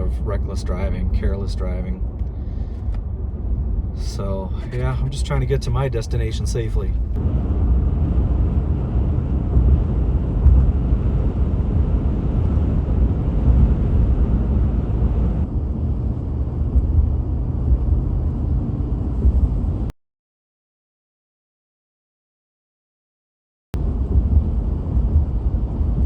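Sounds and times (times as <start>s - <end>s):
vehicle rumble from inside cabin: 0.0s - 19.9s, 23.8s - 26.0s.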